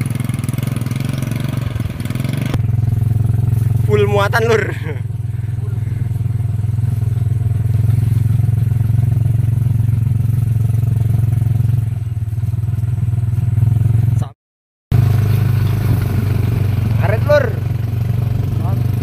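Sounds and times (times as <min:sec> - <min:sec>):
motorcycle engine running steadily: 0:00.0 - 0:19.0.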